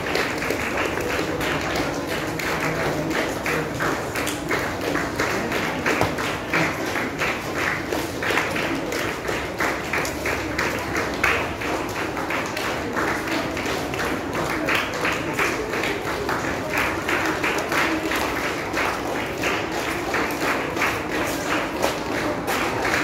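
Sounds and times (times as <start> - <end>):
crowd clapping in rhythm: 0.0 - 23.0.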